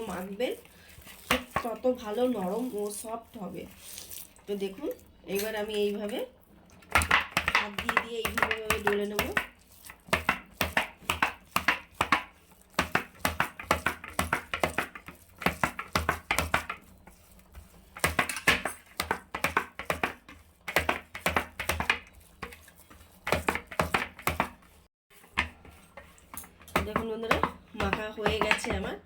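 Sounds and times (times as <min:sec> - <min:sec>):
hands kneading dough on a plate: 0:00.0 - 0:06.2, 0:06.8 - 0:29.0.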